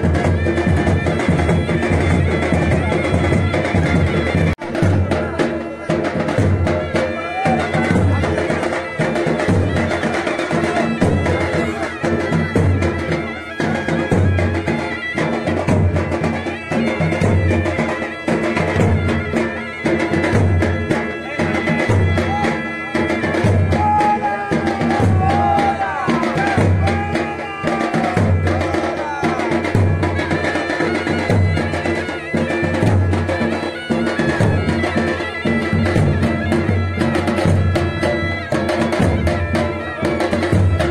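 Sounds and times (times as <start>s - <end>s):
dhol drums beating: 0.0s - 40.9s
shehnai wavering melody: 0.0s - 40.9s.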